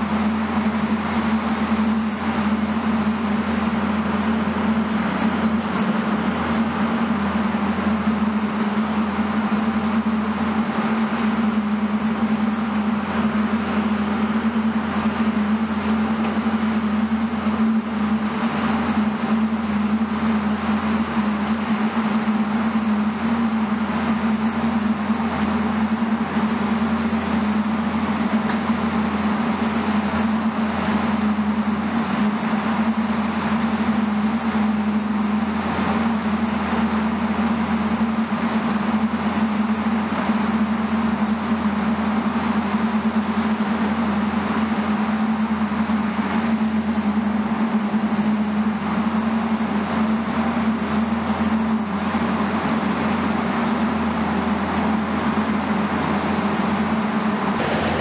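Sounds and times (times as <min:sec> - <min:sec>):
heavy machinery humming: 0:00.0 - 0:58.0.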